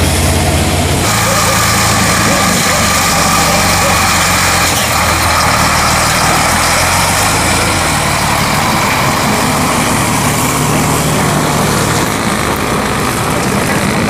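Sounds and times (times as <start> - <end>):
diesel truck passing: 0.0 - 14.0.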